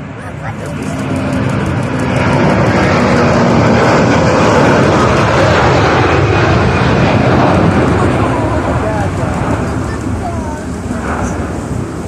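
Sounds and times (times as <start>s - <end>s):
jet airliner taking off: 0.0s - 12.0s.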